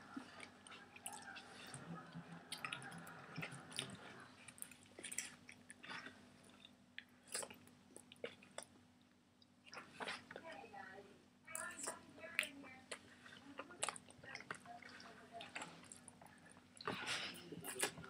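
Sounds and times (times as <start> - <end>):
noodles chewed and slurped: 0.0 - 8.7, 11.5 - 18.0.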